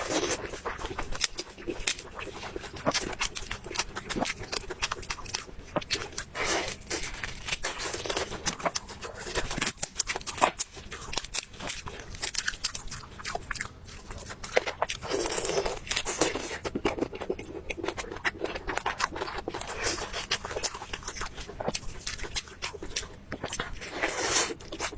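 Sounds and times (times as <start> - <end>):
crunching and chewing crisp food: 0.0 - 24.9.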